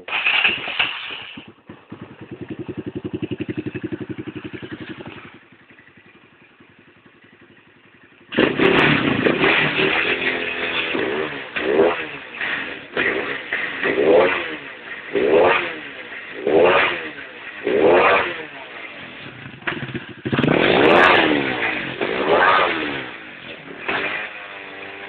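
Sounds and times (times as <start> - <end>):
motorcycle engine revving and idling: 0.0 - 25.0.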